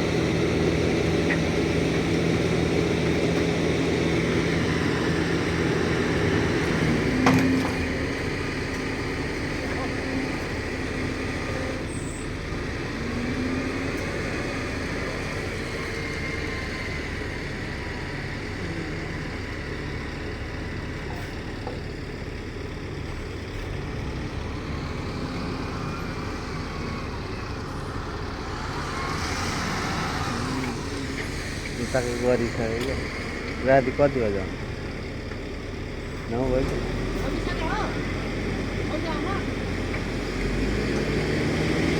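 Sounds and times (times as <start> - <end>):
diesel machinery running: 0.0 - 41.9.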